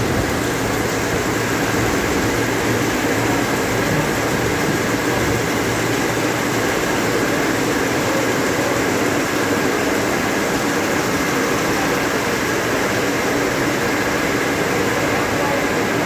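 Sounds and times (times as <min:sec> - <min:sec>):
needle looms running: 0:00.0 - 0:14.6.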